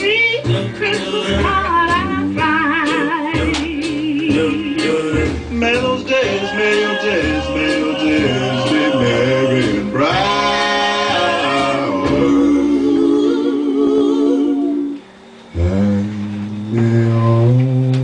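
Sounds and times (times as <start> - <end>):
person singing: 0.4 - 15.0, 15.6 - 18.0.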